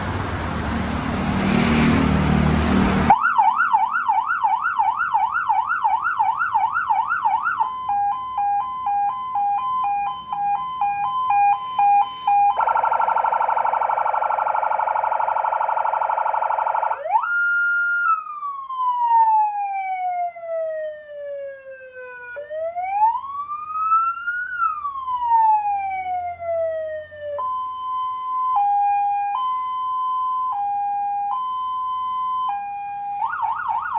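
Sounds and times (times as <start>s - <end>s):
electronic vehicle siren: 1.6s - 33.9s.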